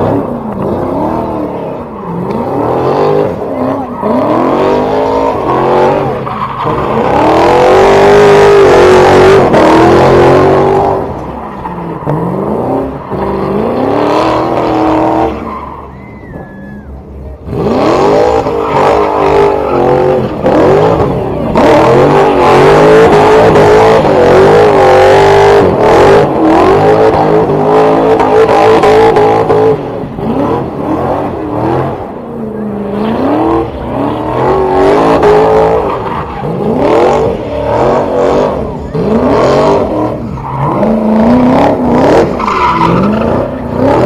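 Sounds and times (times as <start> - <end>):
car engine revving hard: 0.0 - 15.6, 17.4 - 44.0.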